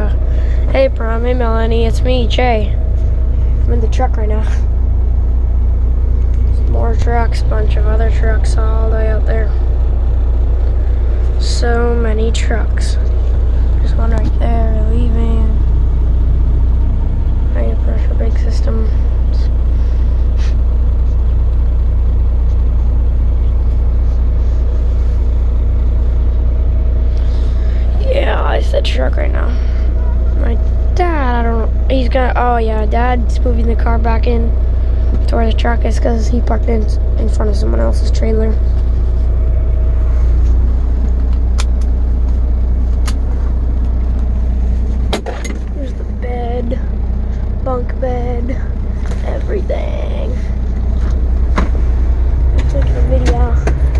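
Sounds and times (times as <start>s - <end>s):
diesel truck engine idling: 0.0s - 53.9s.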